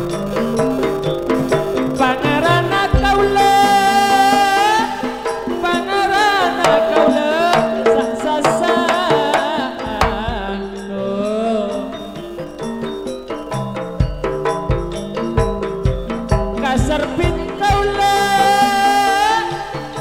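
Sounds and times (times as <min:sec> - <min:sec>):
drum strokes with deep hits: 0:00.0 - 0:10.6, 0:12.6 - 0:20.0
person singing wavering vocal line: 0:00.0 - 0:13.6, 0:16.4 - 0:20.0
metallophones struck with mallets: 0:00.0 - 0:20.0.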